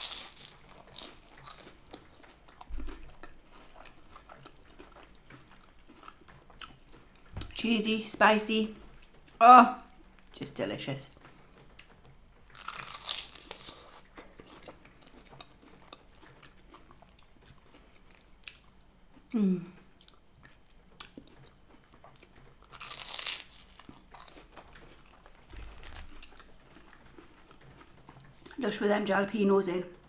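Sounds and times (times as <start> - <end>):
crunching and chewing sandwich: 0.0 - 7.6, 11.1 - 28.6.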